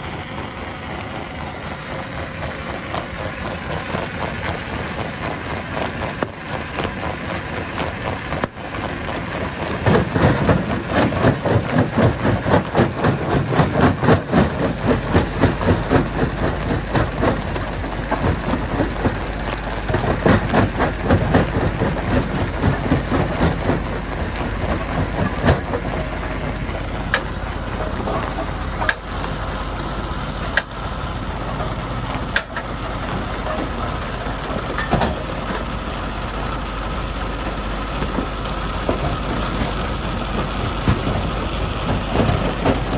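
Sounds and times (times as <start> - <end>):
heavy machinery engine: 0.0 - 42.9.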